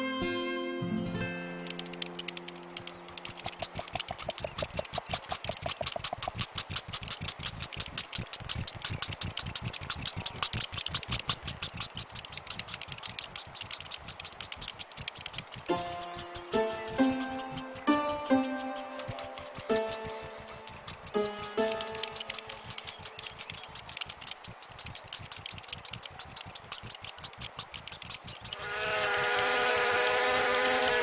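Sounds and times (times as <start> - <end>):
small engine rattling: 1.6 - 31.0.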